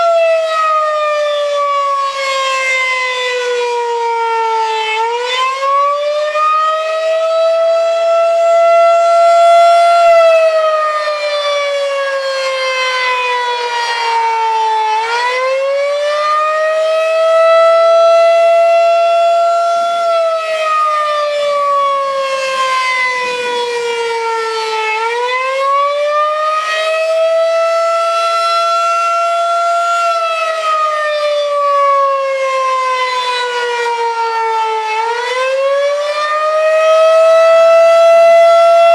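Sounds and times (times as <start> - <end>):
outdoor warning siren wailing: 0.0 - 38.9.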